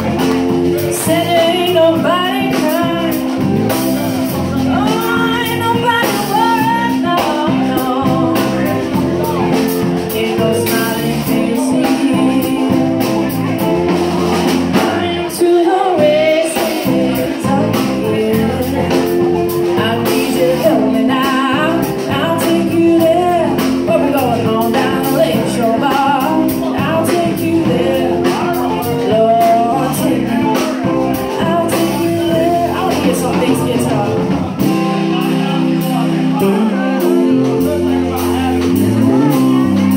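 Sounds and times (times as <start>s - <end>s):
woman singing: 0.0s - 3.6s, 4.6s - 13.8s, 14.4s - 39.9s
acoustic guitar: 0.0s - 39.9s
drum kit: 0.0s - 39.9s
electric guitar: 0.0s - 39.9s.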